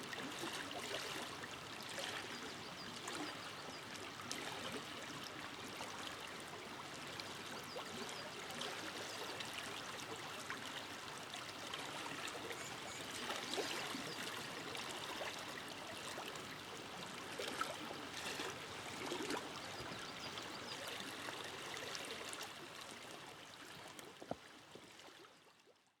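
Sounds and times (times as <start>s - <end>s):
river flowing: 0.2s - 25.2s.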